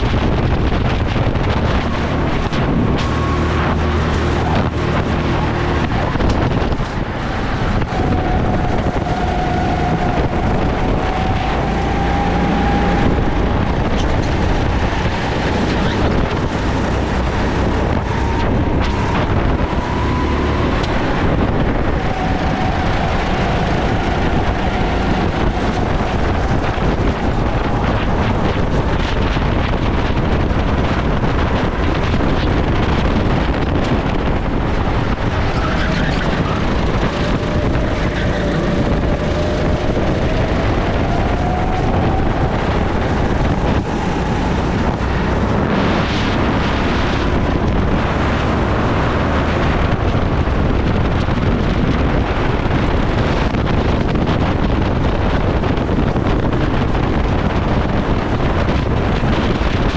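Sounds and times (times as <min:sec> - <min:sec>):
go-kart engine racing: 0:00.0 - 0:59.9
wind buffeting microphone: 0:00.0 - 0:59.9.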